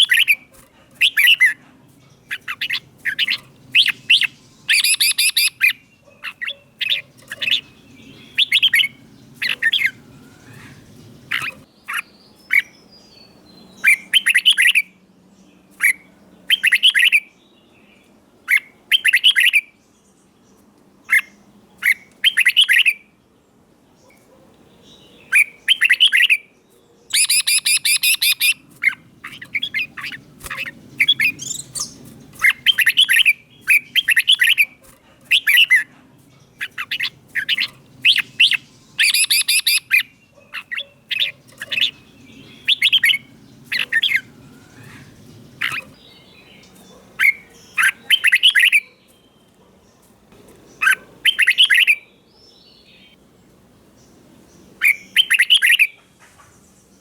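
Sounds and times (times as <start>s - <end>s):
bulbul singing: 0.0s - 19.8s, 24.1s - 53.2s, 53.9s - 56.0s.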